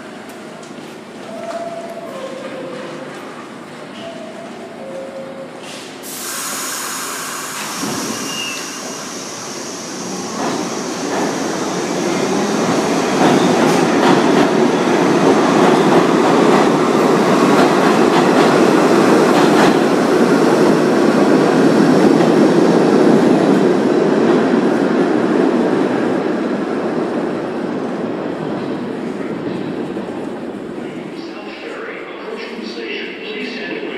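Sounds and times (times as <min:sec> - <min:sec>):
subway train rumble: 0:00.0 - 0:33.9.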